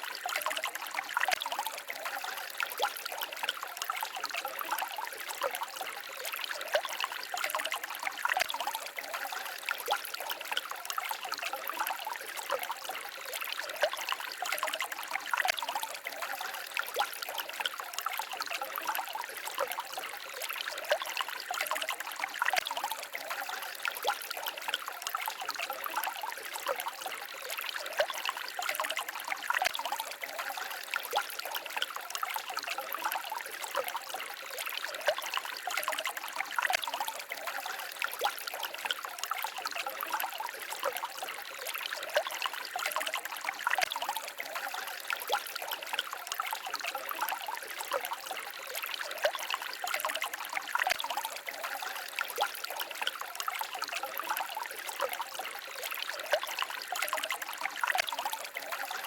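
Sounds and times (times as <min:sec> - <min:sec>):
stream babbling over stones: 0:00.0 - 0:59.0.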